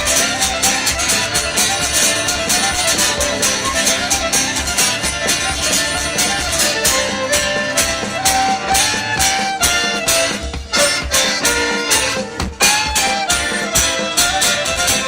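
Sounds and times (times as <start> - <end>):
band playing country-rock: 0.0 - 15.0
fiddle melody: 0.0 - 15.0
steady drum beat: 0.0 - 15.0.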